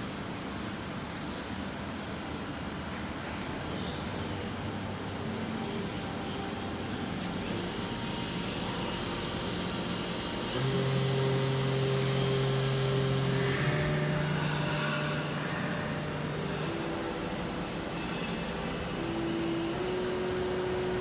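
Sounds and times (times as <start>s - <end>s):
machine mechanical hum: 0.0s - 21.0s
steady pitched hum: 0.0s - 21.0s.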